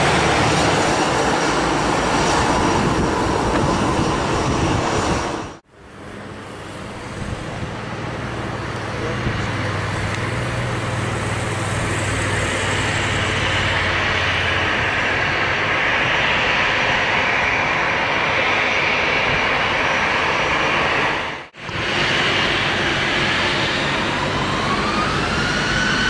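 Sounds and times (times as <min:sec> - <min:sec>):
jet engines rushing and whining: 0:00.0 - 0:26.0.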